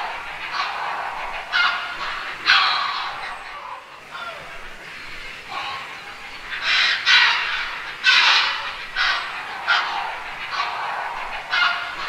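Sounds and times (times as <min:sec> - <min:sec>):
heron rasping calls: 0:00.0 - 0:12.0.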